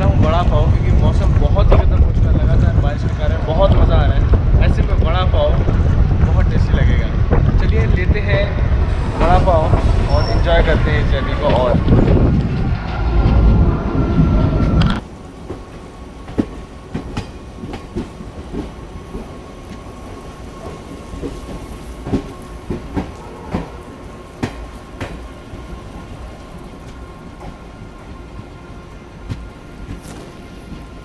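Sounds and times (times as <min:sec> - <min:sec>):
train carriage rumble: 0:00.0 - 0:31.0.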